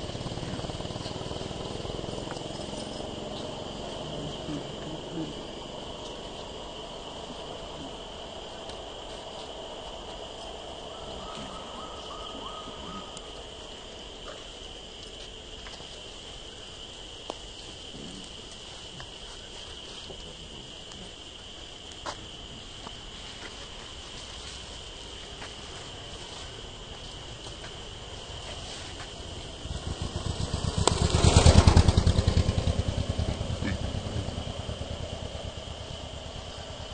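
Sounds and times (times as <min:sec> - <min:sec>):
forest insects droning: 0:00.0 - 0:36.9.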